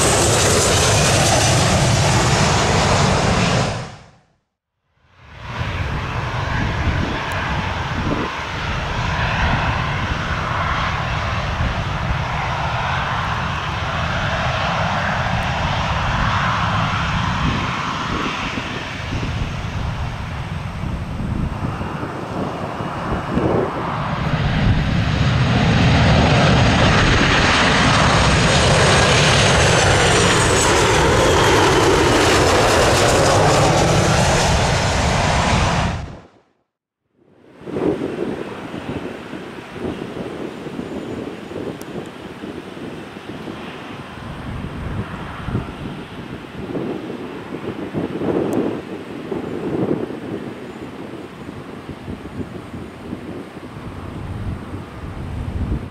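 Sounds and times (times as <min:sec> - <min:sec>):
jet engines running: 0:00.0 - 0:04.2, 0:05.2 - 0:36.4, 0:37.3 - 0:55.9.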